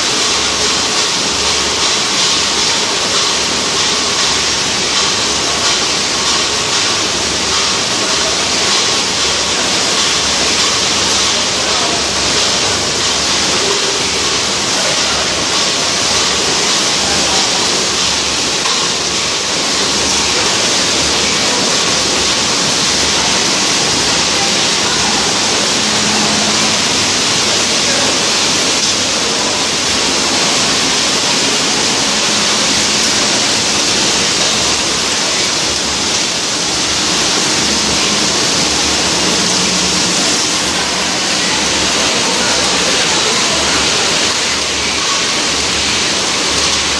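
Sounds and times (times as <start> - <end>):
factory machinery hissing: 0.0 - 46.9.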